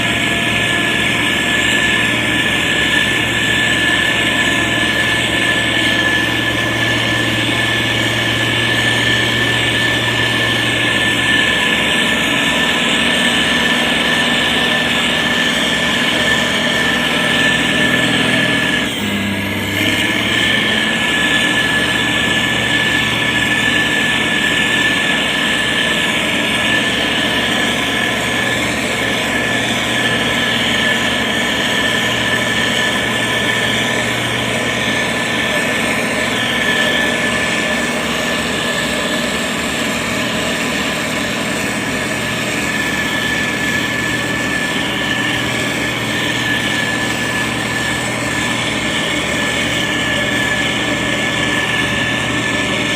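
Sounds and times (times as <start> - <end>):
heavy machine diesel engine running: 0.0 - 52.9
steady high tone: 0.0 - 52.9.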